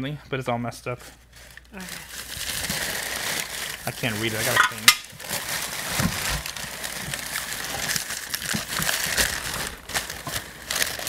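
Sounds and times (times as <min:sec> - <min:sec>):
packing paper rustling and crinkling: 0:01.0 - 0:11.0.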